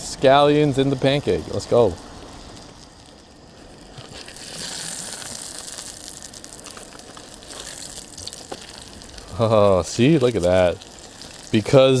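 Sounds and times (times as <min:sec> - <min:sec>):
batter sizzling in frying pan: 0:00.0 - 0:12.0.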